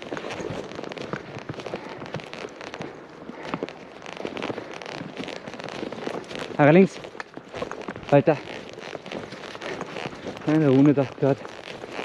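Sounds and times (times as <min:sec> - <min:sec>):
footsteps crunching in snow: 0:00.0 - 0:12.0.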